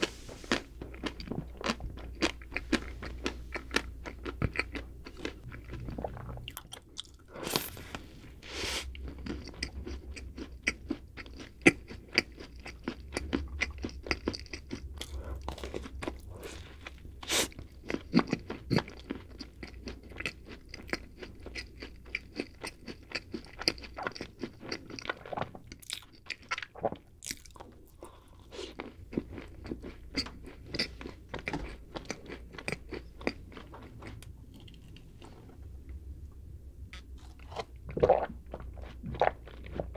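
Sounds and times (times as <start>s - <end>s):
chewing snack cake: 0.0s - 8.1s, 8.8s - 35.4s, 36.9s - 39.9s.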